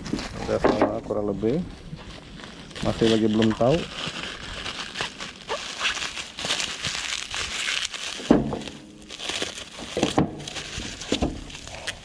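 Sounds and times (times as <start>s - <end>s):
bubble wrap crinkling: 0.0s - 0.6s, 1.2s - 12.0s.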